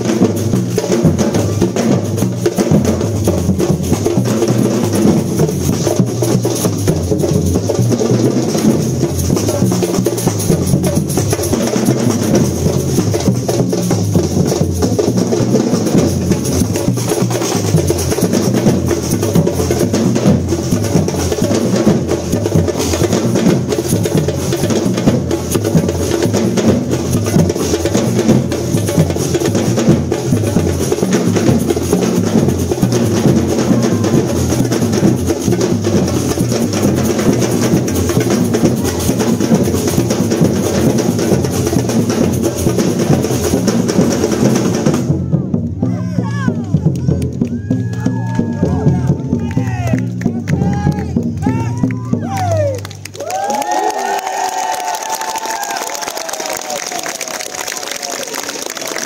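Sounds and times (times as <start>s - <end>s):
drum ensemble playing: 0.0s - 59.0s.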